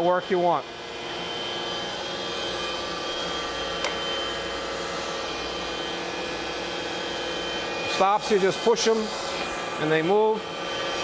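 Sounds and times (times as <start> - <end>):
grinder high whine: 0.0 - 11.0
machine low hum: 0.0 - 11.0.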